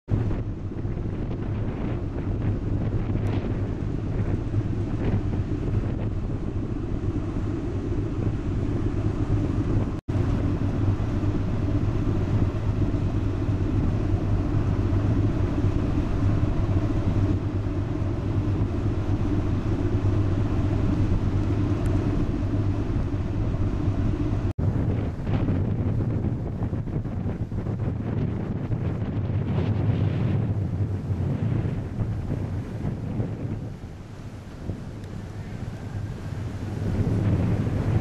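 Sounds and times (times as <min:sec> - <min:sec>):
wind buffeting microphone: 0:00.1 - 0:38.0
ship engines droning: 0:00.2 - 0:29.5, 0:30.8 - 0:38.0.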